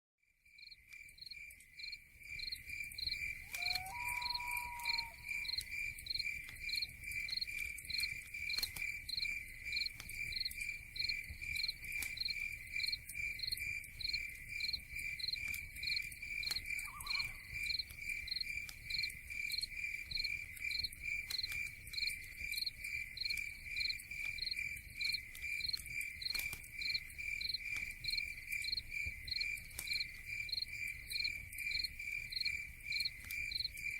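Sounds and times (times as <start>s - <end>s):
crickets chirping: 0.4s - 33.9s.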